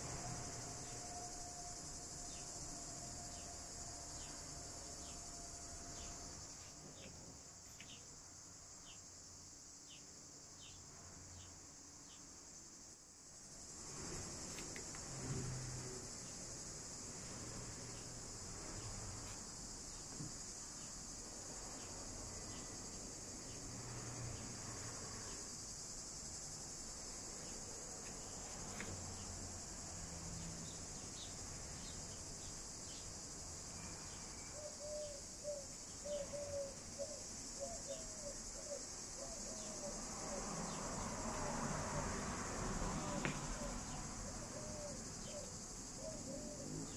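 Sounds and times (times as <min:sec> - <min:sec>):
insect chorus: 0:00.0 - 0:46.9.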